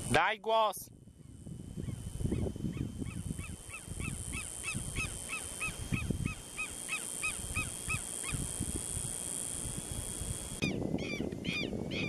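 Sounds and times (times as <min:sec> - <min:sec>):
lapwing calling sharp notes: 0:01.3 - 0:12.0.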